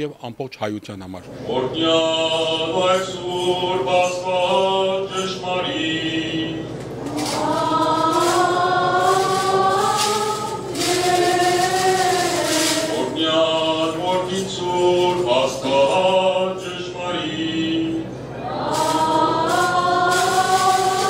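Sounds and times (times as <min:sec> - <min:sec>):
choir chanting a hymn: 0:01.4 - 0:21.0.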